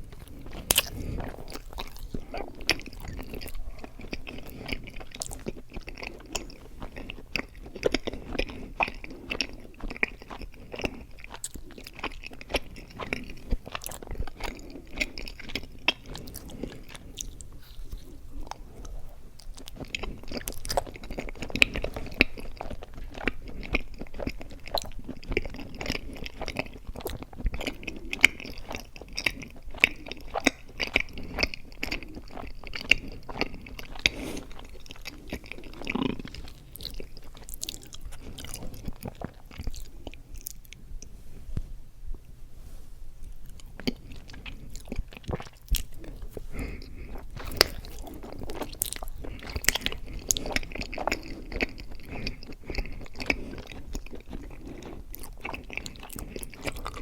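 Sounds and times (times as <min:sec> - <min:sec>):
wet sticky chewing: 0:00.0 - 0:41.1, 0:43.4 - 0:57.0.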